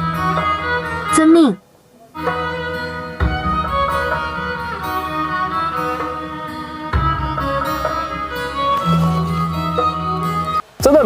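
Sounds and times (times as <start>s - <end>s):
bowed strings music: 0.0s - 11.0s.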